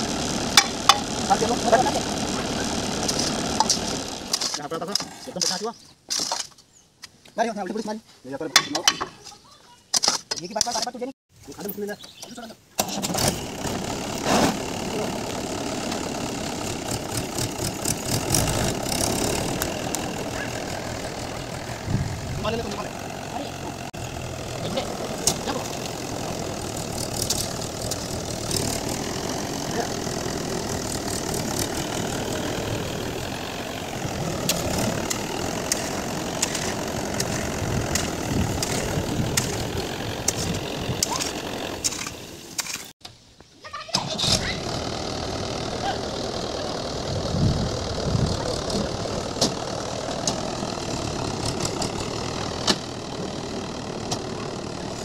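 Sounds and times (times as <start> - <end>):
tractor diesel engine running: 0.0 - 4.6, 12.8 - 43.0, 44.0 - 55.0.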